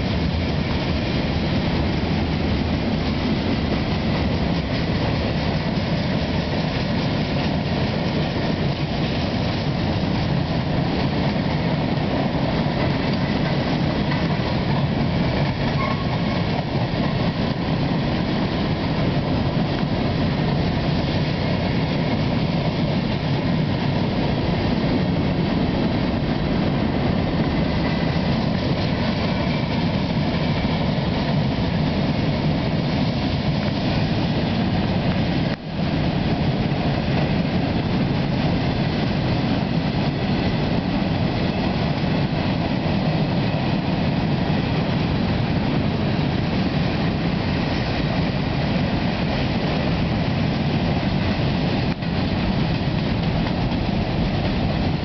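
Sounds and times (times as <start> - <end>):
freight train rolling on rails: 0.0 - 55.0.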